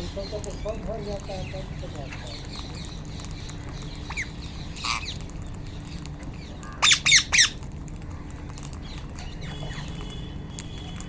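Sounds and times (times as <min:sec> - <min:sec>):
parakeets screeching: 0:00.0 - 0:07.6, 0:08.3 - 0:10.9
parakeets squawking: 0:00.0 - 0:07.6, 0:08.3 - 0:10.2.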